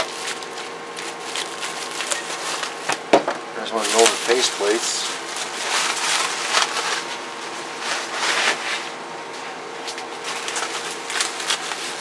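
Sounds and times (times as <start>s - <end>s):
bubble wrap and plastic crinkling: 0.0s - 3.1s, 3.7s - 12.0s.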